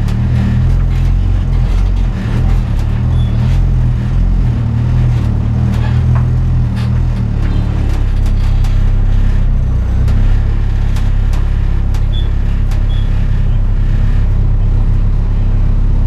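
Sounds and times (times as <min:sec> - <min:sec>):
car engine idling: 0:00.0 - 0:16.0
engine clicks and rattles: 0:00.0 - 0:16.0.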